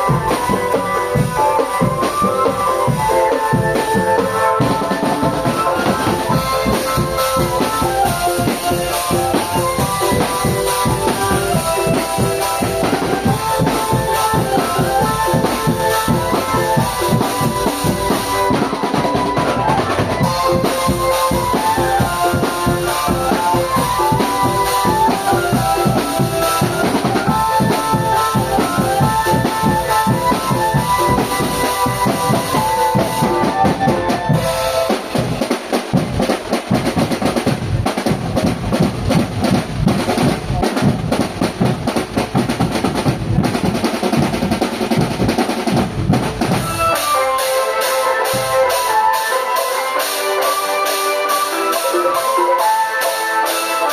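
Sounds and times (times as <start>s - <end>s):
marching drum band playing: 0.0s - 53.9s.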